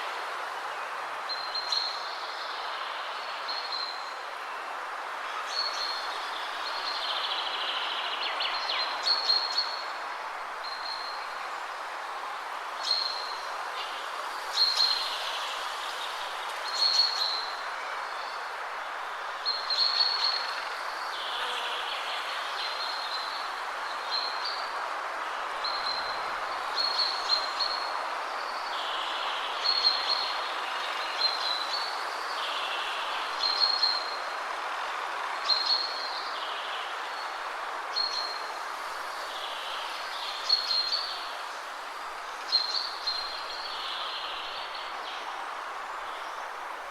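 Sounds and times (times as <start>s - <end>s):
wind rushing through trees: 0.0s - 46.9s.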